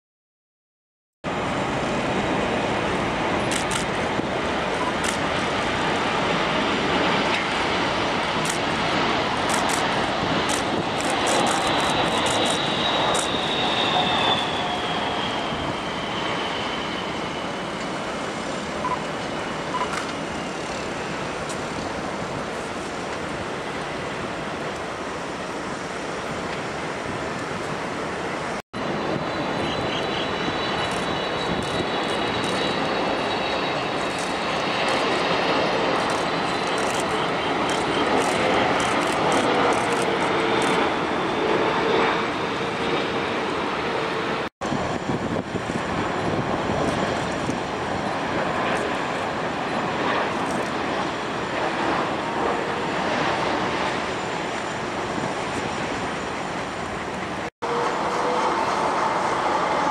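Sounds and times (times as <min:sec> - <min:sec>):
jet airliner engines rumbling and whining: 0:01.3 - 0:59.9.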